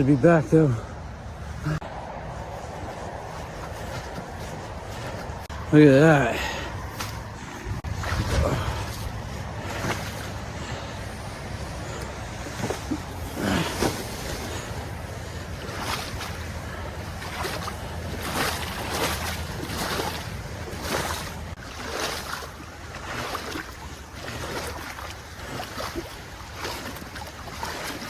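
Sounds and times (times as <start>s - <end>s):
footsteps splashing: 1.4s - 28.0s.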